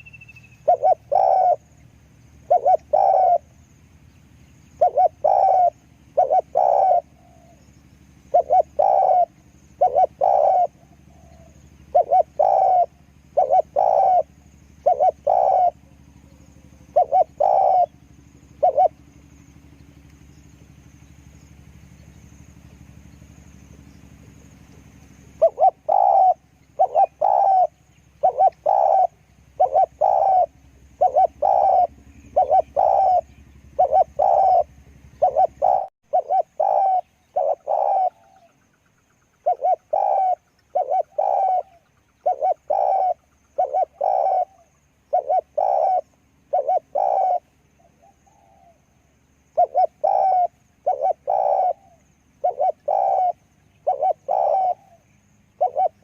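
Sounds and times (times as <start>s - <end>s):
dove cooing: 0.0s - 3.6s, 4.7s - 20.0s, 22.0s - 38.6s, 39.3s - 56.0s.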